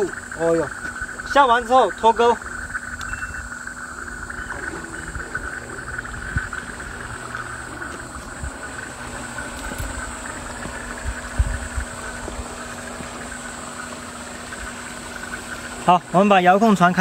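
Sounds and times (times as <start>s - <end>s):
high insect buzzing: 0.0s - 17.0s.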